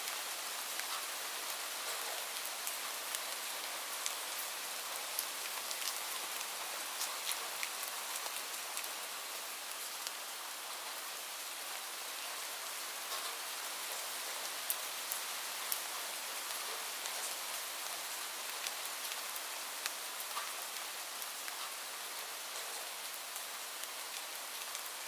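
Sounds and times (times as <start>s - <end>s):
light rain hissing: 0.0s - 25.0s
raindrops ticking on a surface: 0.0s - 25.0s.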